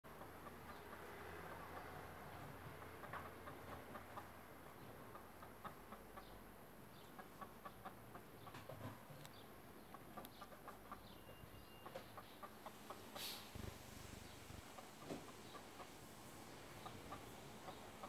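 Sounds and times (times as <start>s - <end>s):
chicken clucking softly: 0.1s - 18.0s.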